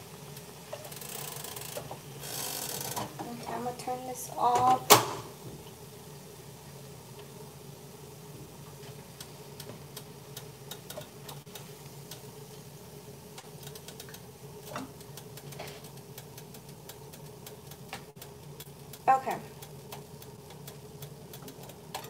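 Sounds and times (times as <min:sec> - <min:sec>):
hot oil crackling: 0:00.0 - 0:22.0
steady low hum: 0:00.0 - 0:22.0.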